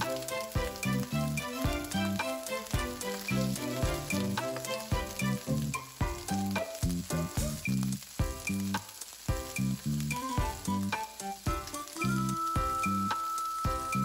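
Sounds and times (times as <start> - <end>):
background music with steady beat: 0.0 - 14.0
vegetables sizzling in a skillet: 0.0 - 14.0.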